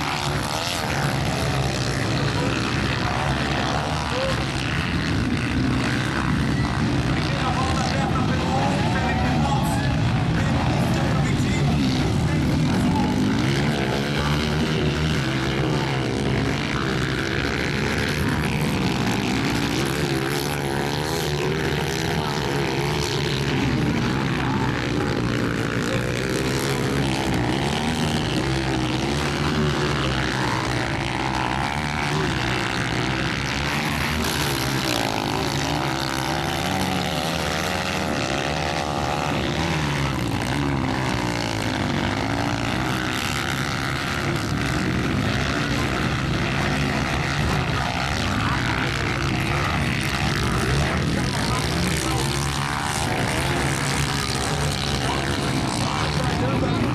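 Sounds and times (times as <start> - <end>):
motocross bikes revving: 0.0 - 56.9.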